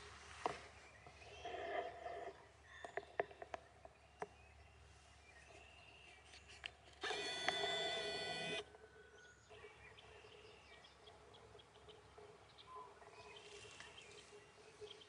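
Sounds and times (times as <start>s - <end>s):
outdoor background noise: 0.0s - 15.0s
faint songbird chirps: 0.6s - 15.0s.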